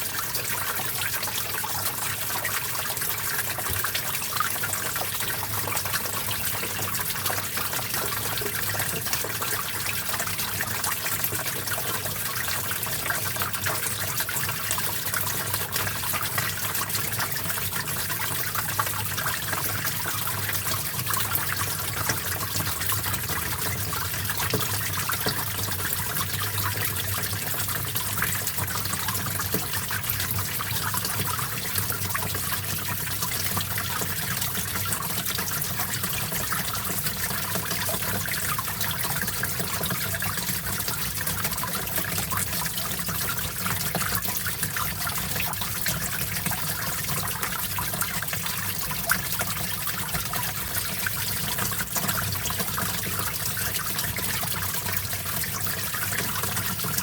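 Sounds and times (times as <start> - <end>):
small stream trickling: 0.0 - 57.0.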